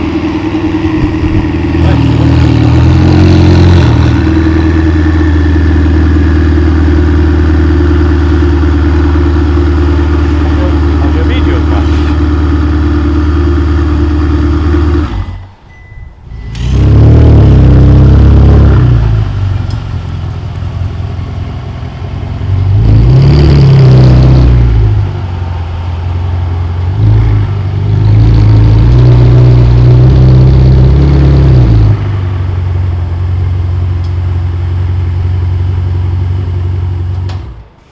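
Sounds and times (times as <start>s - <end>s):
car engine idling and revving: 0.0s - 37.8s.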